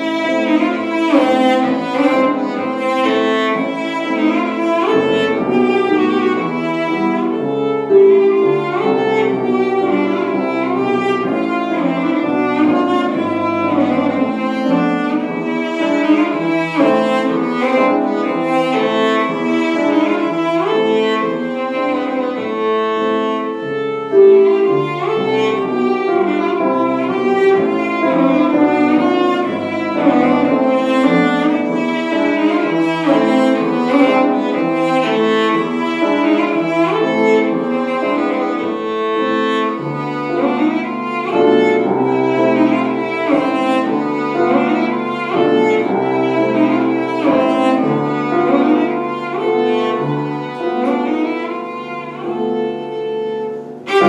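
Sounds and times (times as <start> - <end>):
cello and violin playing: 0.0 - 54.0.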